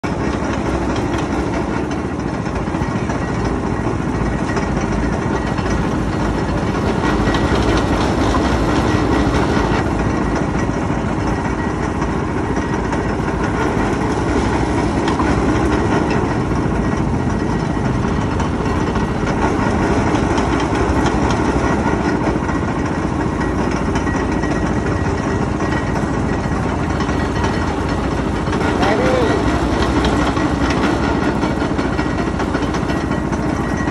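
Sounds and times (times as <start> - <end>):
juice press motor running: 0.0 - 33.9
rollers crushing cane stalks: 0.0 - 33.9.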